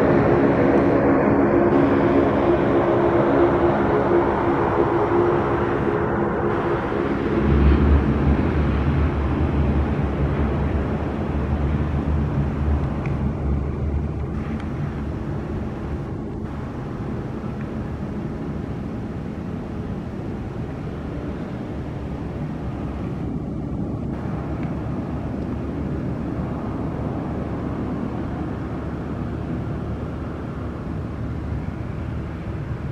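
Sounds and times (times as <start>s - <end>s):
jet engines rumbling: 0.0s - 32.9s.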